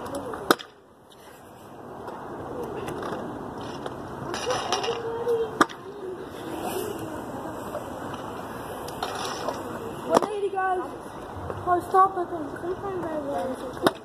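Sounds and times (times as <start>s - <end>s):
scooter clacking on pavement: 1.9s - 14.0s.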